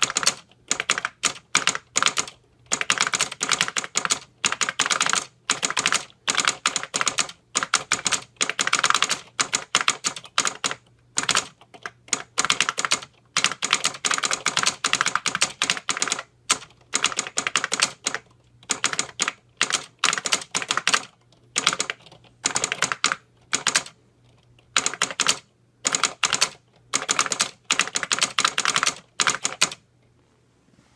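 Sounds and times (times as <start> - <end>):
fast typing on keyboard: 0.0 - 29.8.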